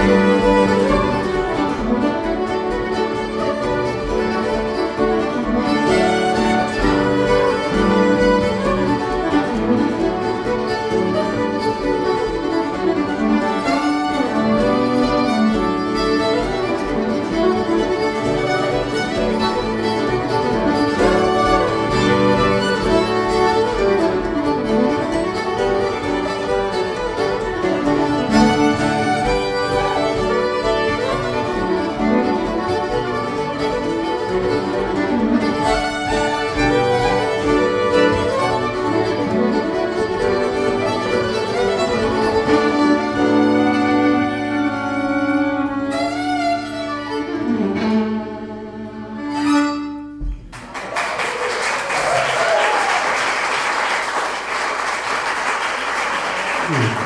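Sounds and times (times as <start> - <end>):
fiddles playing a reel: 0.0 - 50.2
acoustic guitar: 0.0 - 50.8, 56.6 - 57.0.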